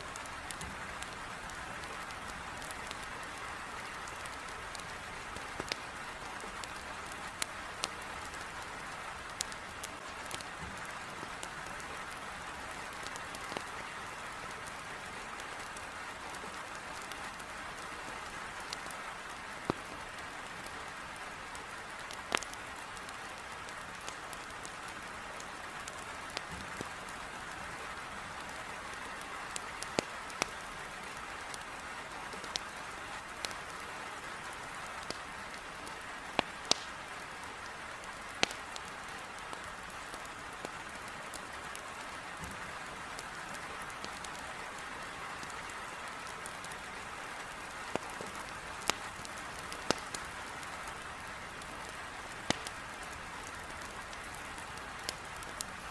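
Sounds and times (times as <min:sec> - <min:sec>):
firewood crackling and popping: 0:00.0 - 0:55.9
heavy rain on a window: 0:00.0 - 0:55.9.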